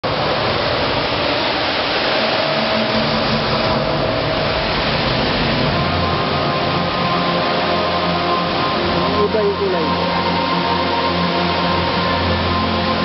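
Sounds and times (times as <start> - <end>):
fountain water rushing: 0.0 - 13.0.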